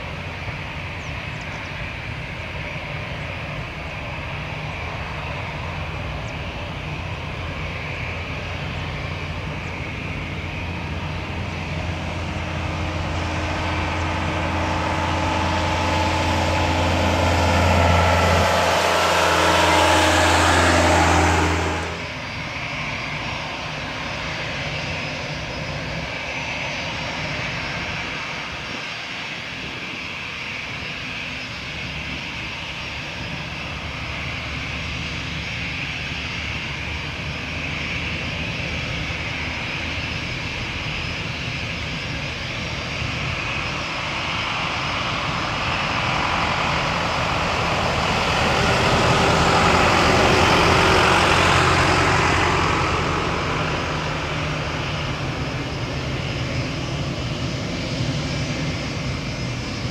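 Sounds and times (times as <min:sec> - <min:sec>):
jet engines whining at taxi: 0:00.0 - 0:59.9.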